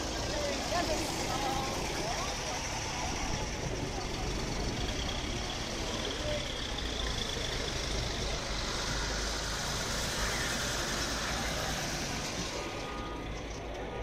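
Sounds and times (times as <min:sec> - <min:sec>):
cars driving slowly past: 0:00.0 - 0:14.0.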